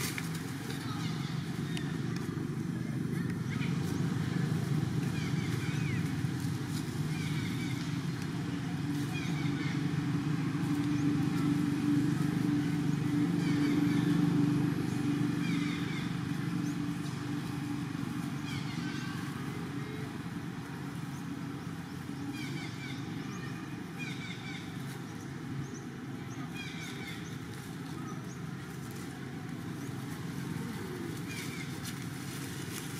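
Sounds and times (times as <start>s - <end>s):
low engine hum: 0.0s - 32.9s.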